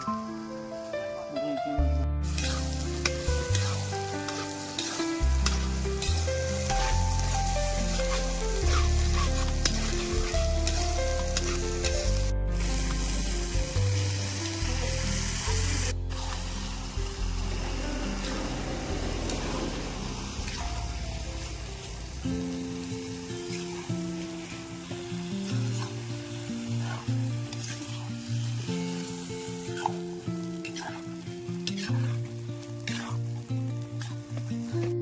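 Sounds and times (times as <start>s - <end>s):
curry sizzling in a pan: 0.0s - 35.0s.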